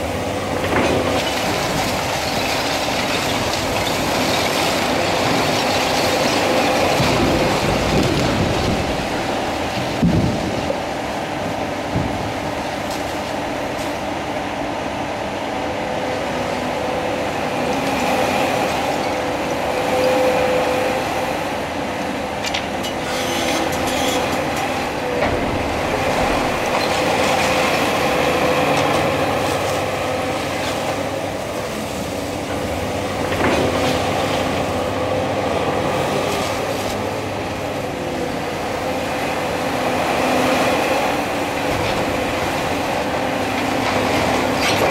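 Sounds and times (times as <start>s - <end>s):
excavator diesel engine and hydraulics: 0.0s - 44.9s.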